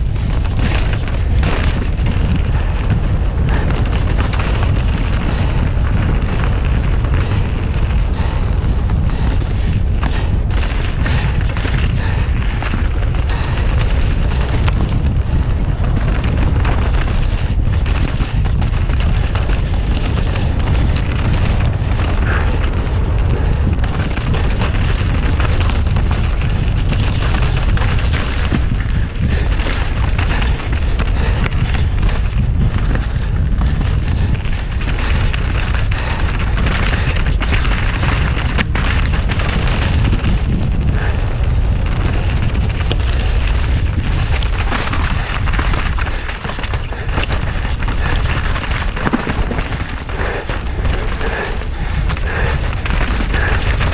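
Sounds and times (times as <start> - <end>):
bike knocks and rattles: 0.0 - 53.9
wind rumbling on microphone: 0.0 - 53.9.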